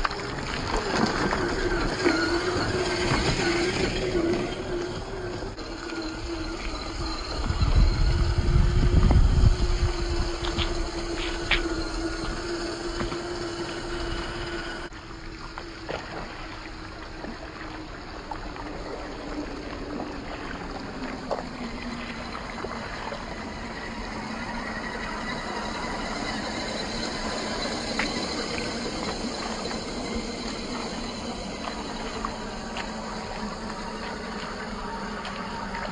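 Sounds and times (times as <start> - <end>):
electric motor whining: 0.0 - 35.9
water splashing: 0.0 - 35.9.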